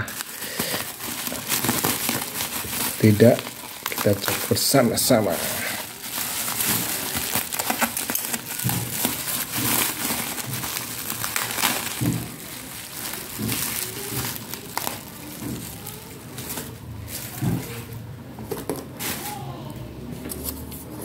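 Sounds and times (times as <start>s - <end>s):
bubble wrap and paper crinkling: 0.0s - 20.8s.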